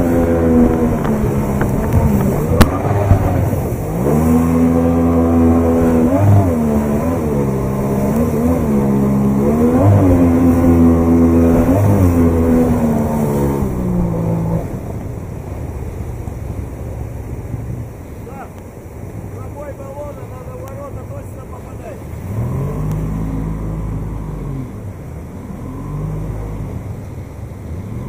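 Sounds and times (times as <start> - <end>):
outboard motor revving: 0.0 - 28.0
rushing water: 0.0 - 28.0.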